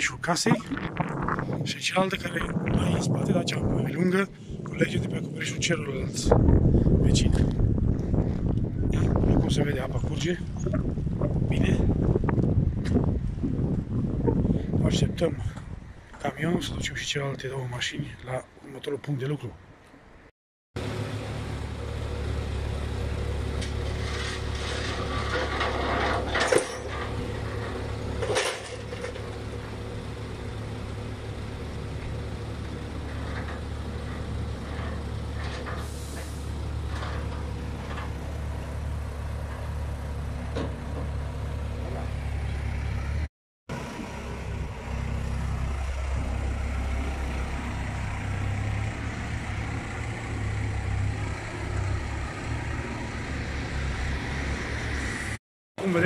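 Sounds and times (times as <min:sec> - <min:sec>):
diesel truck engine rumbling: 0:00.0 - 0:18.5, 0:20.8 - 0:56.0.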